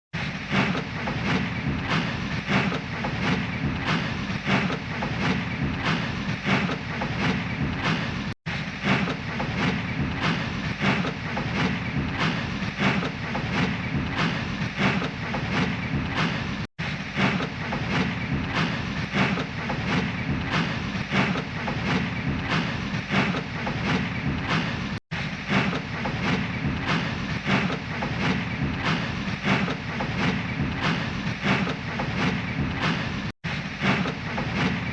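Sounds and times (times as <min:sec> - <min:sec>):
steam locomotive puffing: 0:00.2 - 0:34.9.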